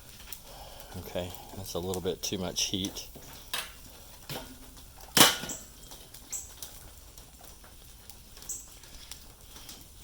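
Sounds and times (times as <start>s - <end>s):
charcoal clicking and tapping: 0.2s - 10.0s.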